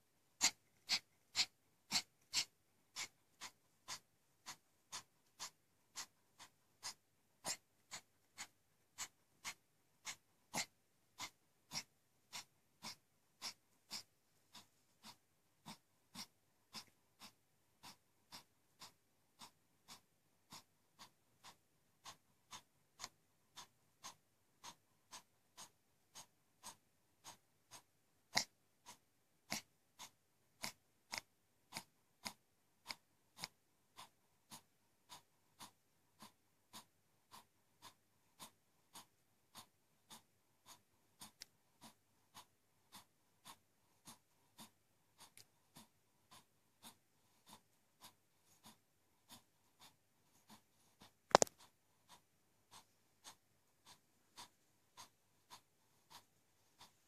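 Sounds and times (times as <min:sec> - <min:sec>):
dog breathing rapidly with crackles: 0:00.4 - 0:57.0.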